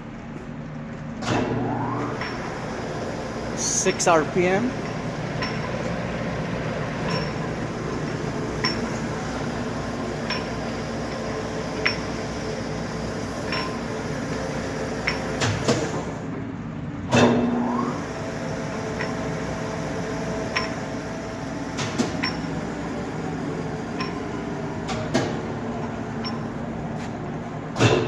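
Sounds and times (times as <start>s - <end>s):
lathe mechanical hum: 0.0s - 28.0s.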